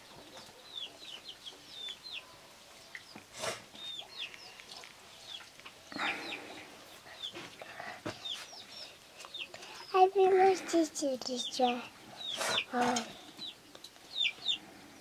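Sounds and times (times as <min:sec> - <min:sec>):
birds peeping: 0:00.0 - 0:15.0.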